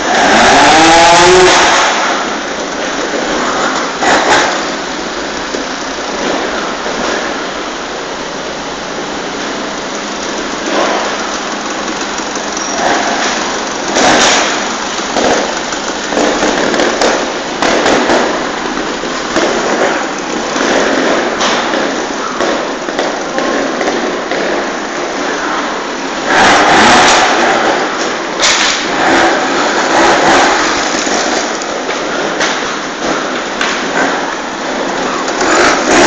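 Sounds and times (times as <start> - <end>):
motorcycle engines revving: 0.0 - 36.0.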